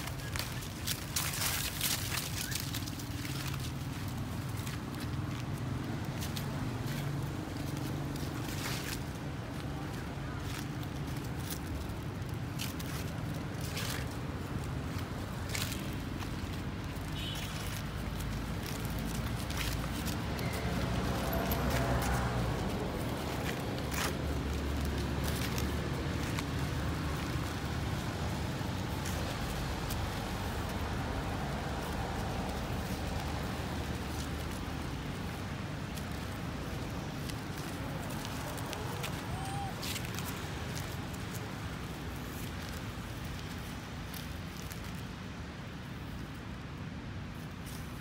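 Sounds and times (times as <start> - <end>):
footsteps on dry leaves: 0.0 - 48.0
low outdoor rumble: 0.0 - 48.0.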